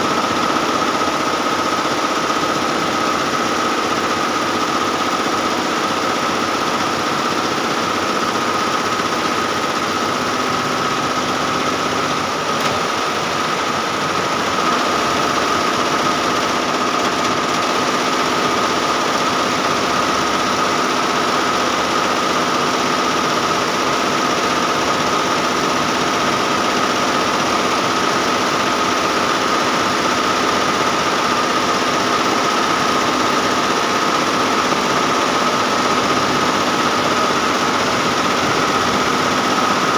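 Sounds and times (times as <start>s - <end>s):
embroidery machine whirring: 0.0s - 39.9s.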